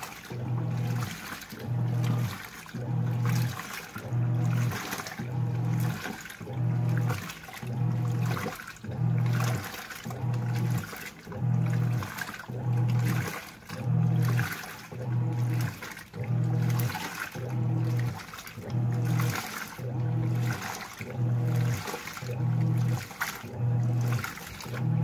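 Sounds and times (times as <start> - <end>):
washing machine motor humming: 0.0 - 25.0
water and laundry sloshing: 0.0 - 25.0.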